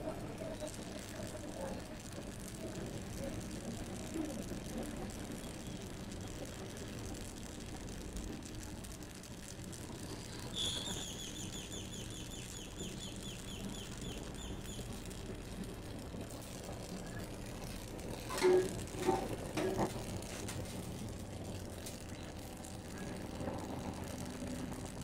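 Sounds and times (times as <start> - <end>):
torch flame hissing: 0.0 - 25.0.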